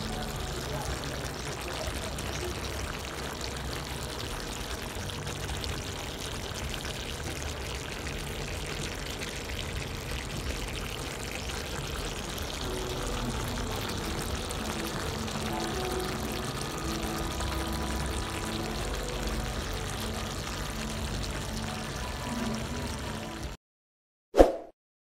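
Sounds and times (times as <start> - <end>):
curry simmering with crackling hiss: 0.0 - 23.6.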